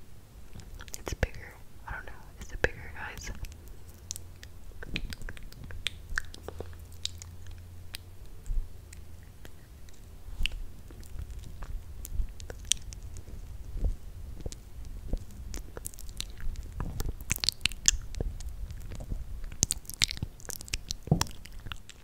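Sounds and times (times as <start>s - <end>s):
steady low hum: 0.0s - 22.0s
tongue clicks: 0.6s - 22.0s
wet lip smacks: 2.4s - 22.0s.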